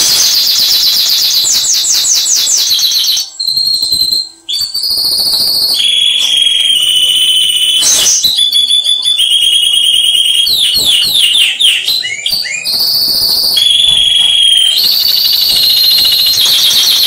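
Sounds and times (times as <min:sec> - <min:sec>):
recorded songbird calls: 0:00.0 - 0:17.0.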